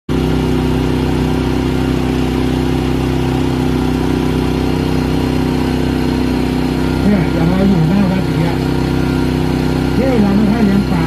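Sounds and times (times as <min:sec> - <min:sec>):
boat engine running steadily: 0:00.1 - 0:11.0.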